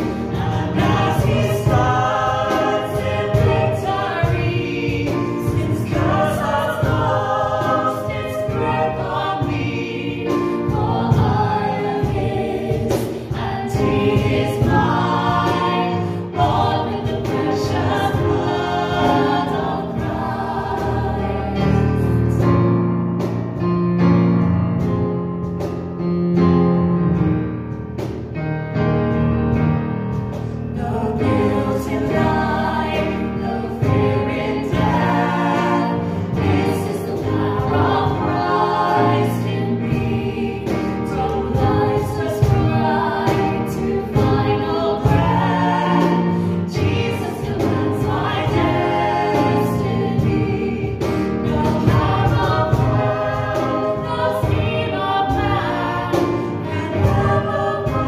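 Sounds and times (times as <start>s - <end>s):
women singing: 0.0s - 22.6s, 30.7s - 58.0s.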